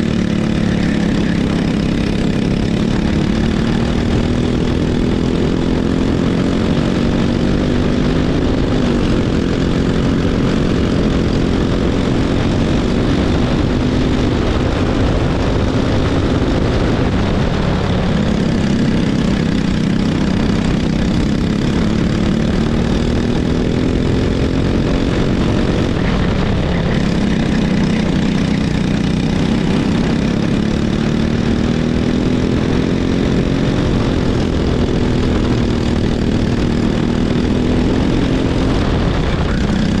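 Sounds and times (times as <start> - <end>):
go-kart engine revving: 0.0 - 40.0.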